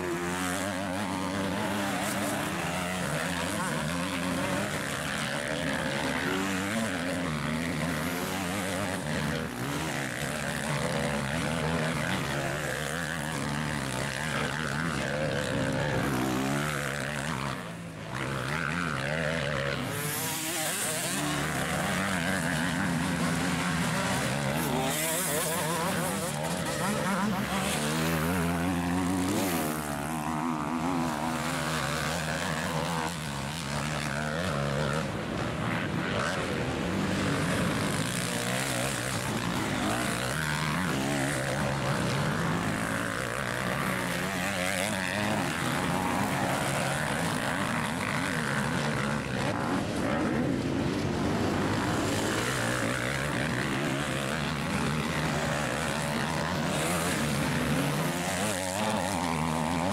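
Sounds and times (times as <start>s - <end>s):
motorbike engines revving: 0.0s - 59.9s.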